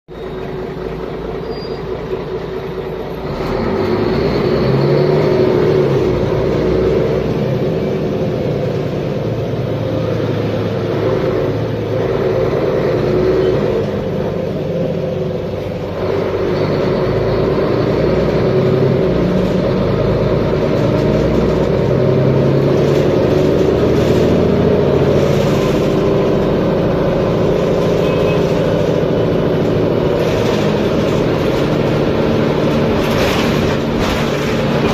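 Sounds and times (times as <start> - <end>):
bus diesel engine running: 0.1 - 34.9.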